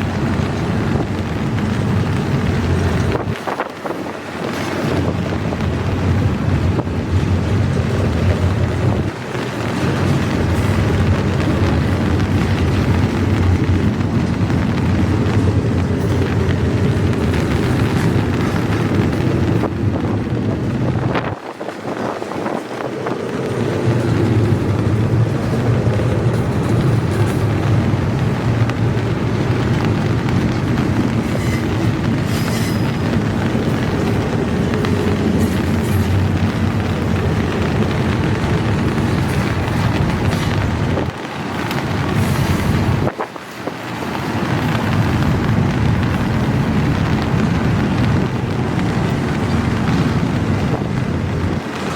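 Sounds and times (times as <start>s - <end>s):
freight train rumbling past: 0.0s - 51.9s
wind buffeting microphone: 0.0s - 51.9s.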